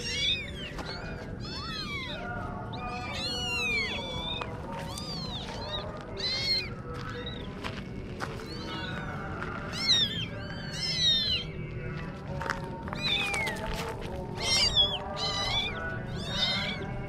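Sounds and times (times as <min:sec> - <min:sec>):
kittens meowing: 0:00.0 - 0:07.5, 0:08.3 - 0:11.7, 0:12.8 - 0:13.7, 0:14.3 - 0:17.0.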